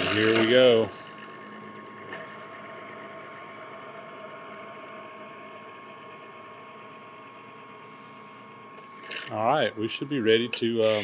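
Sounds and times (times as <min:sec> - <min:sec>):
drill press running: 0:00.0 - 0:11.0.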